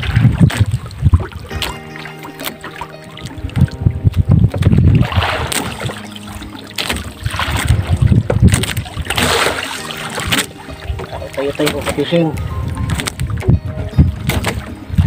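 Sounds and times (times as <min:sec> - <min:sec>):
waves splashing against boat hull: 0:00.0 - 0:15.0
wind buffeting microphone: 0:00.0 - 0:15.0.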